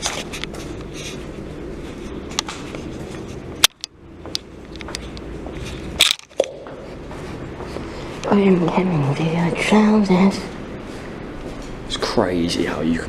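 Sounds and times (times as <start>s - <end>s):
footsteps: 0.0s - 12.2s
low background rumble: 0.0s - 13.0s.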